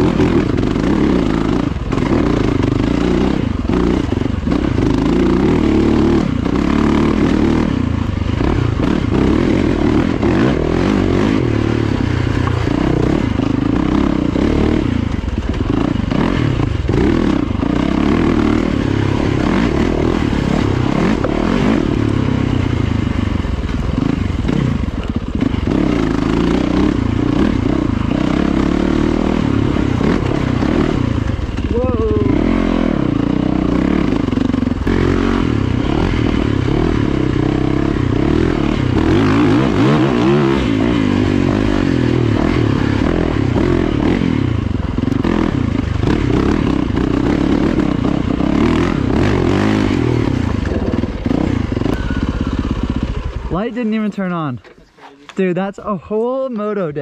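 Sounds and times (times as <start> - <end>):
dirt bike engine revving: 0.0 - 54.6.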